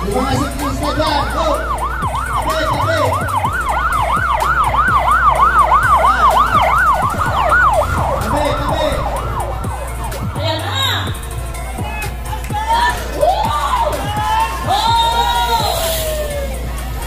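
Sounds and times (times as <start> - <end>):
motorcycle siren yelping: 0.0 - 17.0.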